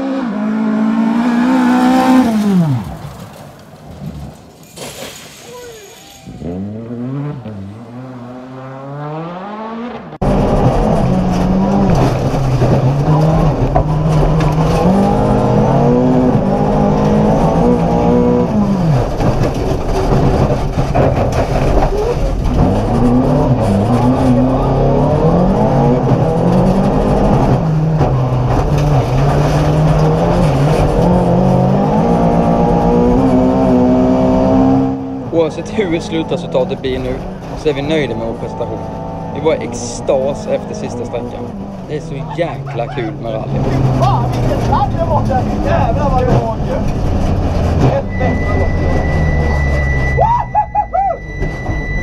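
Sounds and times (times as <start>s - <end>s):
rally car engine revving: 0.0s - 3.3s, 6.3s - 52.0s.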